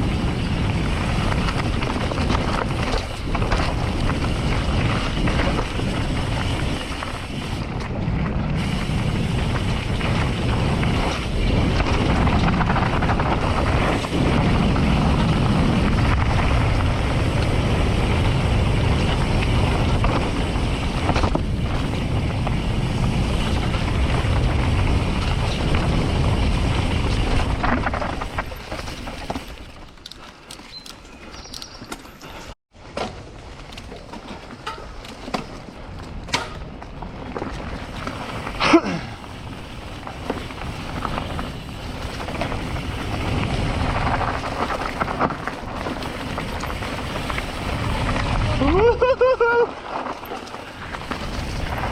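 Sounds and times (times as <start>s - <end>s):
wind buffeting microphone: 0.0s - 28.6s, 35.7s - 50.0s, 50.6s - 51.9s
bike tyres rumbling on dirt: 0.0s - 51.9s.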